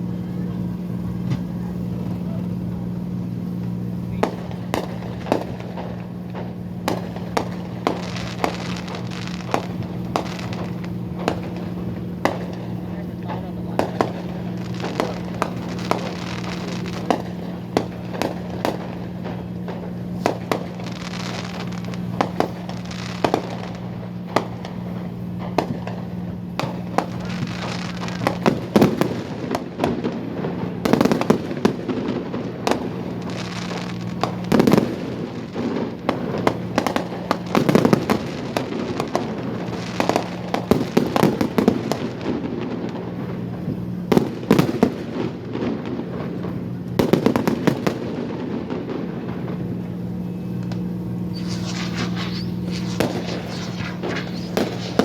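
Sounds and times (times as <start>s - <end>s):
steady low hum: 0.0s - 55.0s
fireworks bangs and pops: 0.2s - 50.0s, 50.6s - 55.0s.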